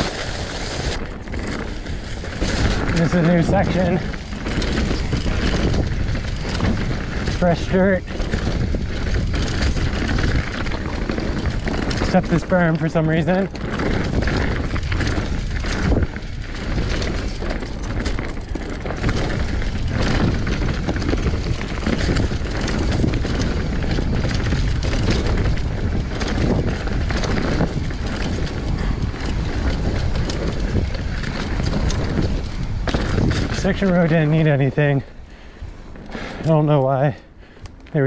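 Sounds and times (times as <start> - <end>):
bike knocks and rattles: 0.0 - 38.0
bike tyres on loose dirt: 0.0 - 38.0.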